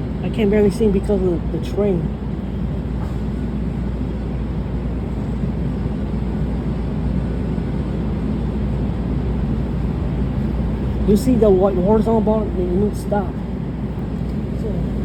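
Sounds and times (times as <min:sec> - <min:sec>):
light-rail car rumble: 0:00.0 - 0:15.0.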